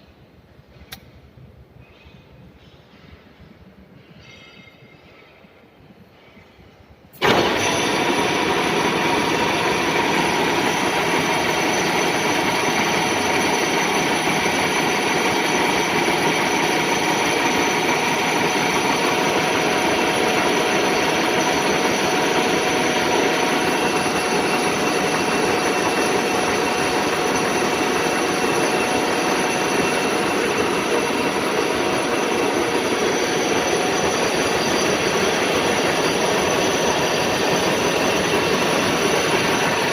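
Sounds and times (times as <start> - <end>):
milling machine whining: 7.2 - 39.9.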